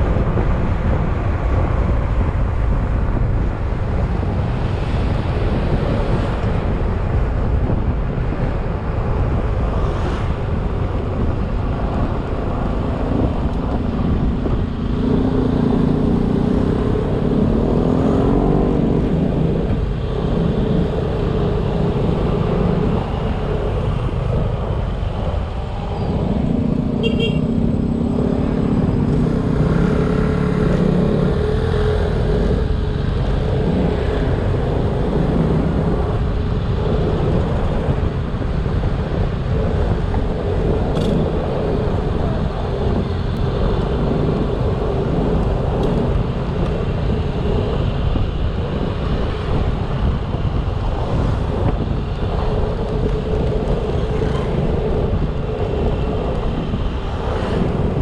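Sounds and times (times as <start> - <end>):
road and wind noise: 0.0 - 58.0
scooter engine drone: 0.0 - 58.0.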